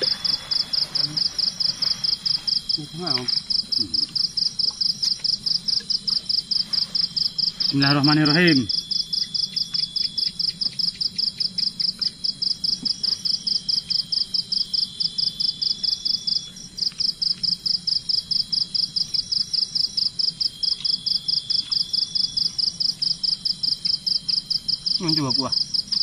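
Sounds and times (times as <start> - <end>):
high-pitched insect drone: 0.0 - 26.0
insects chirping: 0.0 - 26.0.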